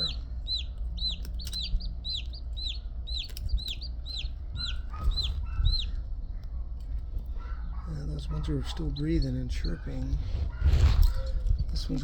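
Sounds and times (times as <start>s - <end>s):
chick peeping: 0.0s - 6.6s, 7.4s - 12.0s.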